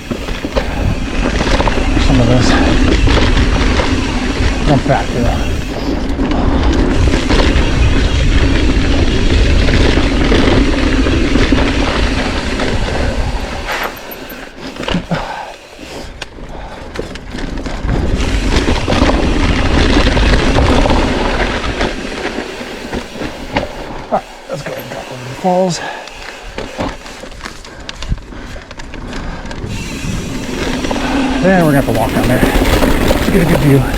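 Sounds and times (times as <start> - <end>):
wind rumble on microphone: 0.0 - 13.9, 16.5 - 24.1, 26.5 - 33.9
bike rattling over bumps: 0.0 - 33.9
bike tyres rolling on dirt: 0.0 - 33.9.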